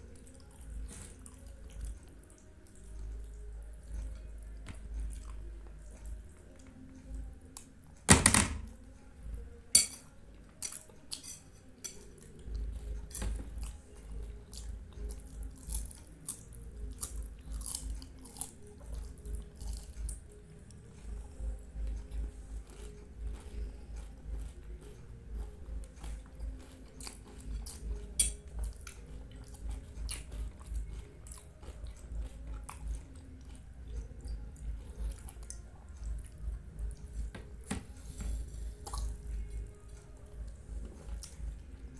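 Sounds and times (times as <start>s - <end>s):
chewing with wet mouth smacks: 0.0s - 7.7s, 12.0s - 37.3s, 38.3s - 41.9s.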